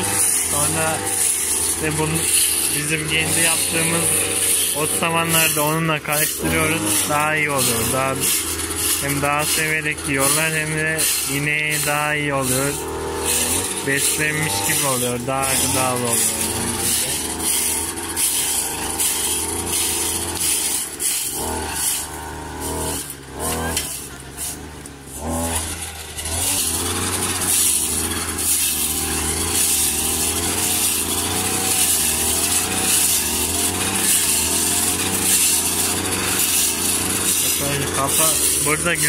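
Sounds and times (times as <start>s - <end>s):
blade chopping dried grass: 0.0s - 39.0s
brush cutter engine: 0.0s - 39.0s.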